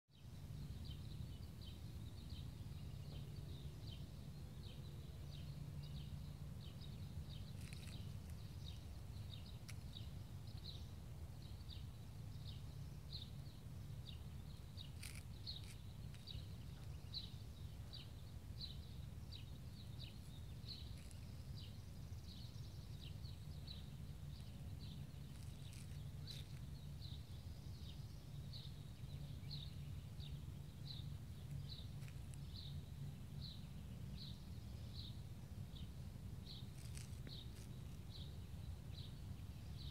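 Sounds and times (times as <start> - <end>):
small bird chirping: 0.1 - 39.9.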